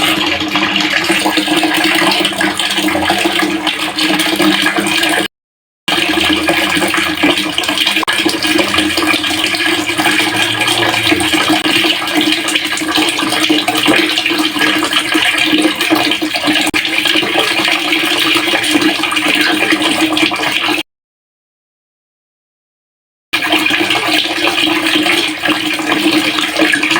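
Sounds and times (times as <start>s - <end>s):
water pouring into a pail: 0.0s - 5.3s, 5.9s - 20.8s, 23.4s - 26.9s.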